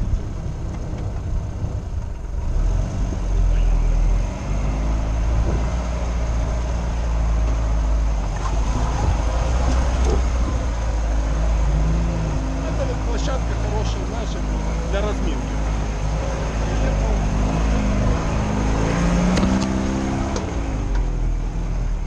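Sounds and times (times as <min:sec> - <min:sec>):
car engine running under load: 0:00.0 - 0:22.0.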